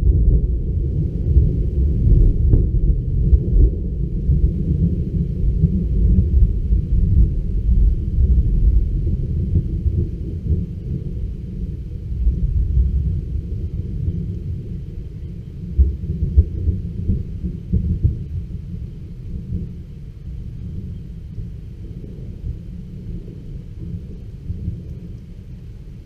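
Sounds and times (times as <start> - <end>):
thunder rumbling: 0.0 - 26.0.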